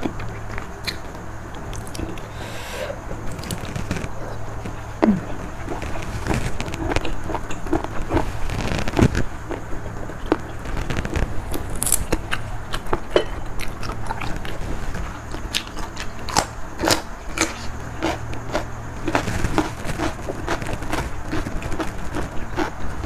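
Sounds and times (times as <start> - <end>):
person chewing crunchy food: 0.0 - 23.0.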